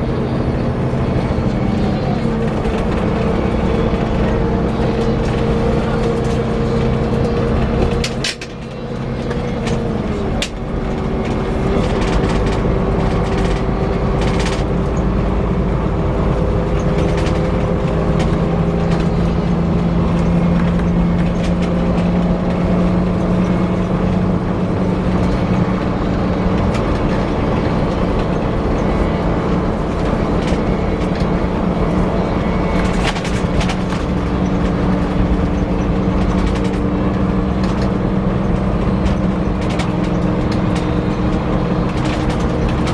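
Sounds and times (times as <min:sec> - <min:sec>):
coach engine and road noise: 0:00.0 - 0:42.9
whirring whine: 0:00.0 - 0:42.9.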